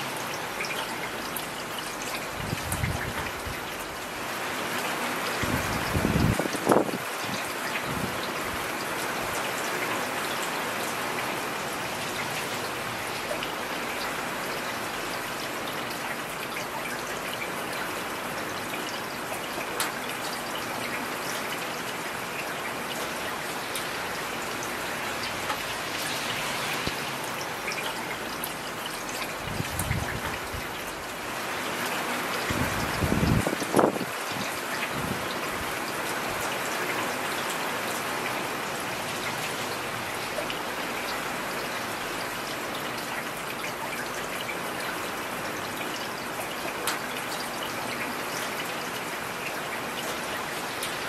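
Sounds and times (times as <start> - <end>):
heavy rain falling: 0.0 - 51.0
raindrops ticking close by: 0.0 - 51.0.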